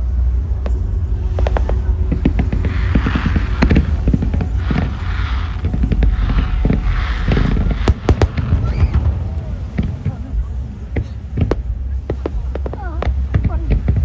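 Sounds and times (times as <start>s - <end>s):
fireworks crackling: 0.0s - 14.0s
steady low rumble: 0.0s - 14.0s
fireworks cracking and banging: 0.6s - 14.0s.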